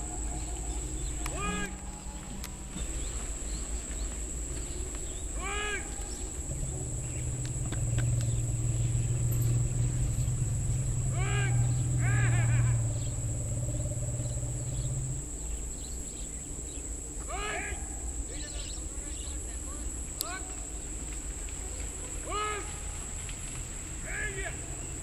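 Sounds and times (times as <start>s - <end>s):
bird calls: 0.0s - 25.0s
steady low hum: 0.0s - 25.0s.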